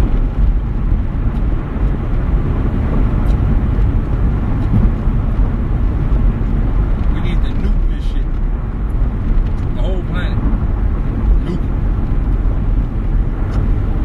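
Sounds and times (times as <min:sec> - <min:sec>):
loud low rumbling: 0:00.0 - 0:14.0.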